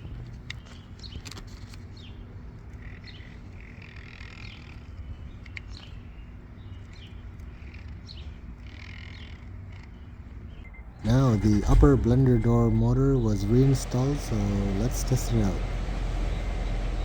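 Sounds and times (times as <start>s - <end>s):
small birds chirping: 0.3s - 17.0s
steady low hum: 2.2s - 17.0s.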